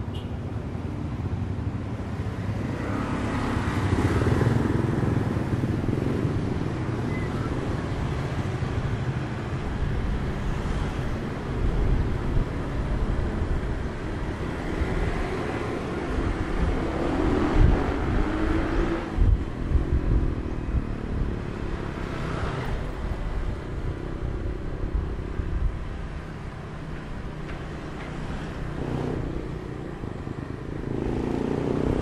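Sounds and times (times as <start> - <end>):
tyre and wind noise: 4.0 - 32.0.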